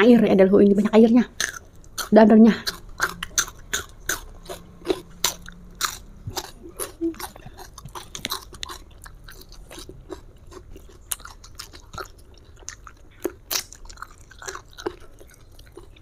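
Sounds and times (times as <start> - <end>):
person chewing food: 1.4 - 16.0.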